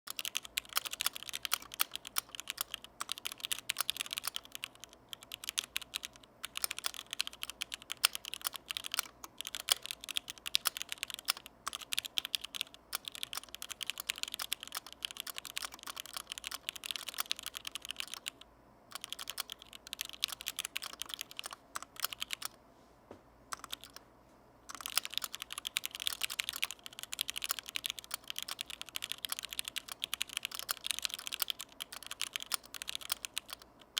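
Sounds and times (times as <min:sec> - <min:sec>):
mechanical keyboard typing: 0:00.1 - 0:22.6, 0:23.5 - 0:24.0, 0:24.7 - 0:33.9.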